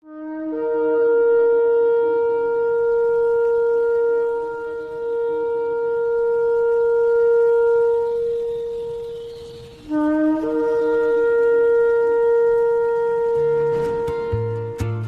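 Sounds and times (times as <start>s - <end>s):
ram's horn long blast: 0.0s - 15.0s.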